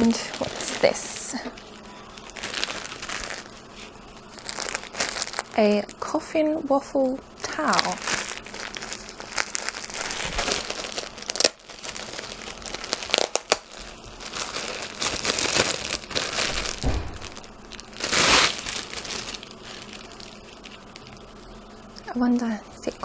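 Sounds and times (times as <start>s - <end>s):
plastic packaging crinkling: 0.0s - 6.2s, 7.0s - 21.6s.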